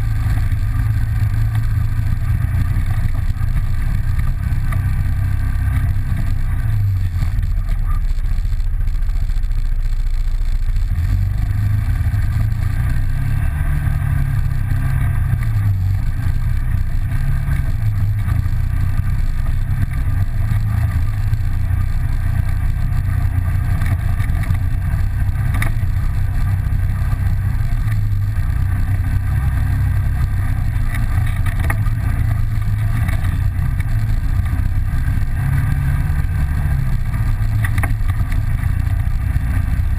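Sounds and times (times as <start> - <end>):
off-road vehicle engine droning: 0.0 - 39.9.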